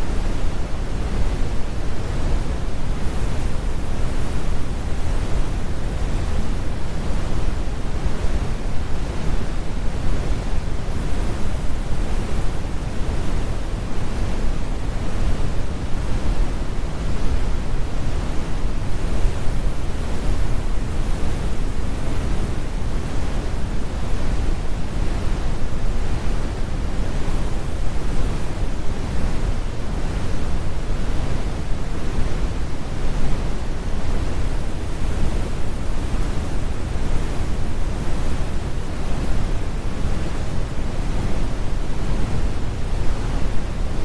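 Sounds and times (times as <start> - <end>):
brown noise rumbling hiss: 0.0 - 44.0.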